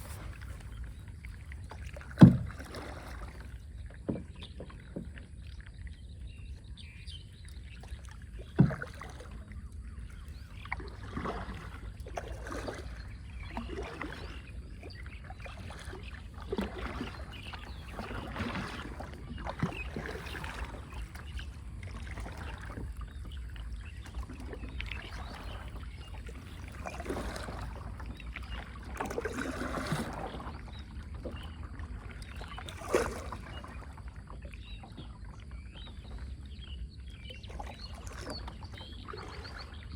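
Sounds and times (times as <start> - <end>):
paddle strokes splashing: 0.0 - 39.9.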